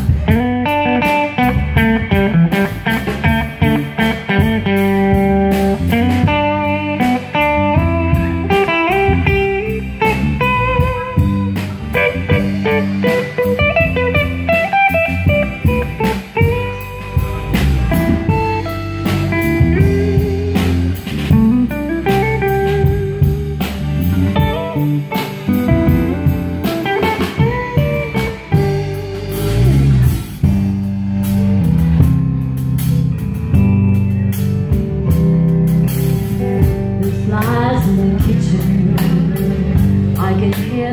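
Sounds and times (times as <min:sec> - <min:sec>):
bass guitar: 0:00.0 - 0:40.9
drums: 0:00.0 - 0:40.9
electric guitar solo: 0:00.0 - 0:40.9.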